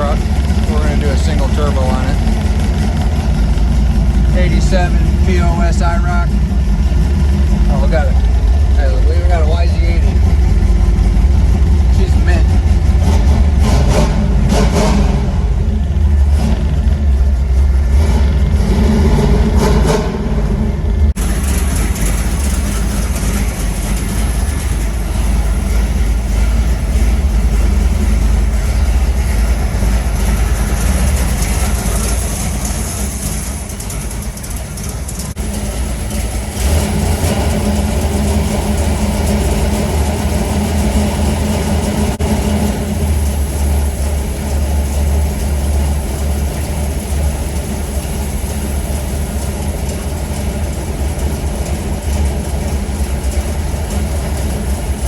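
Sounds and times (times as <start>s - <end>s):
engine idling with deep rumble: 0.0s - 55.0s.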